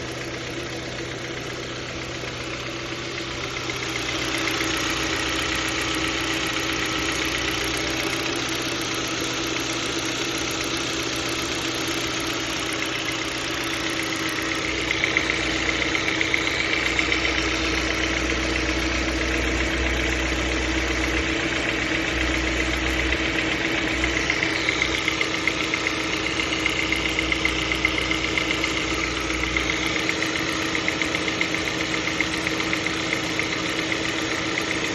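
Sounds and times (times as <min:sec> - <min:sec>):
car engine running: 0:00.0 - 0:34.9
engine knock ticking: 0:00.0 - 0:34.9.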